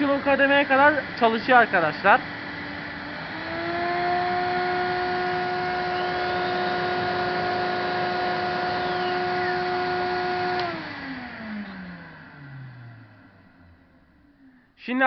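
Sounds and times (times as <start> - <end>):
vacuum cleaner motor whining: 0.0 - 14.4.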